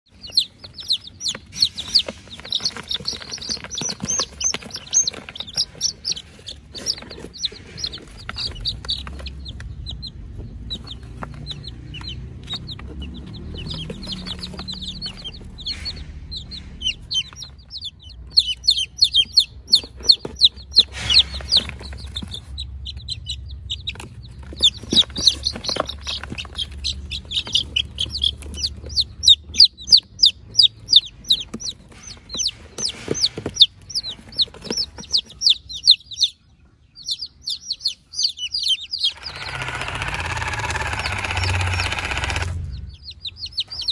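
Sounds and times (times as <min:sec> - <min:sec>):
chicks peeping: 0:00.1 - 0:43.9.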